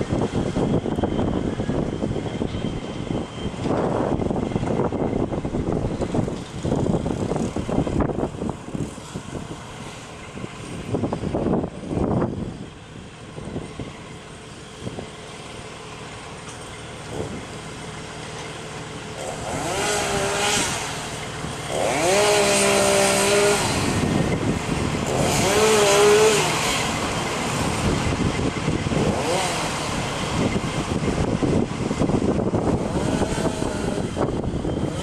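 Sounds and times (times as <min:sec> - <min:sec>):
chainsaw cutting a tree: 0:03.5 - 0:35.0.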